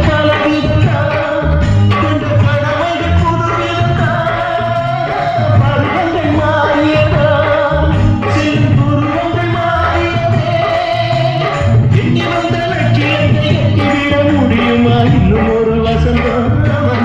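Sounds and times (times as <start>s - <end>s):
instrumental melody line: 0.0s - 17.0s
low drum beat: 0.0s - 17.0s.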